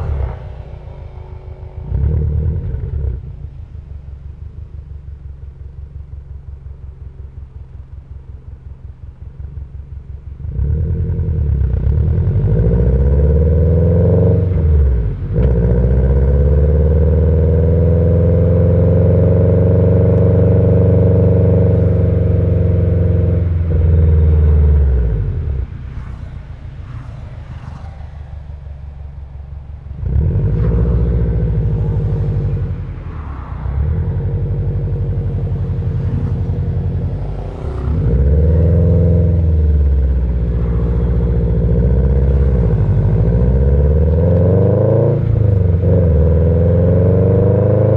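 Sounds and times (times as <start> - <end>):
car engine revving: 0.0 - 7.8, 9.0 - 47.9.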